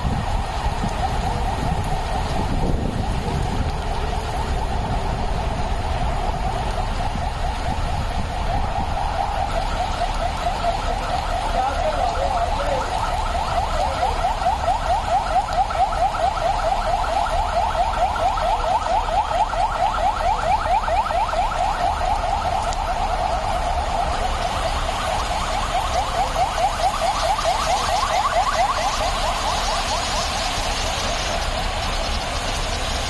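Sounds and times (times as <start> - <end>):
heavy rain on road: 0.0 - 33.0
sirens yelping: 0.0 - 33.0.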